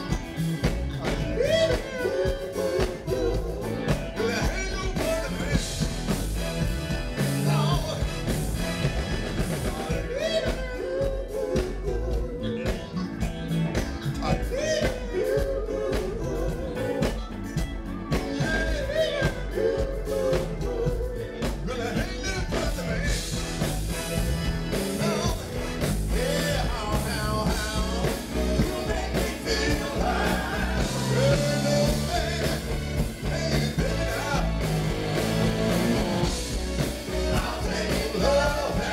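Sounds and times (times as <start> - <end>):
man singing lead: 0.0 - 6.2, 7.1 - 38.9
live funk band through pa: 0.0 - 38.9.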